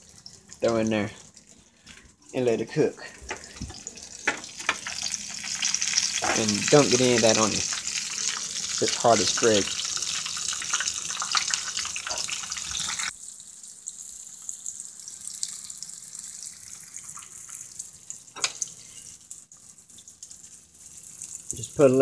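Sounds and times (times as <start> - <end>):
fish frying in hot grease: 3.3 - 22.0.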